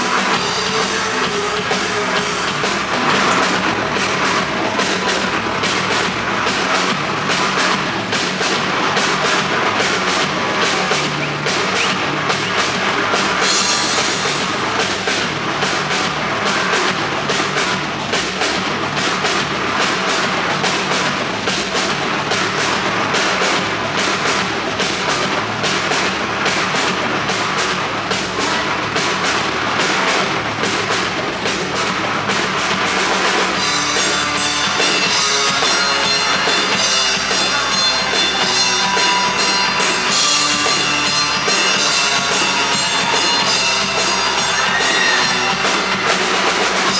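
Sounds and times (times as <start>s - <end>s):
drum kit beat: 0.0s - 46.9s
loud rock music: 0.0s - 46.9s.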